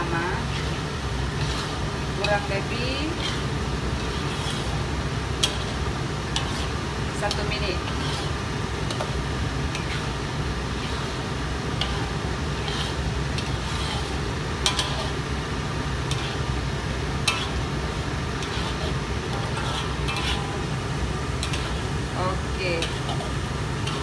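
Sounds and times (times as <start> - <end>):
steady low hum: 0.0 - 24.0
metal spatula scraping a wok: 0.3 - 24.0.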